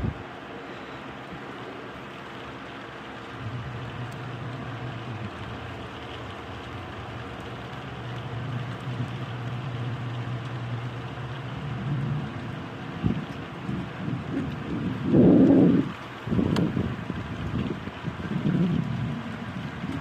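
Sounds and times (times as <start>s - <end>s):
low continuous rumble: 0.0s - 20.0s
rain falling: 0.0s - 20.0s.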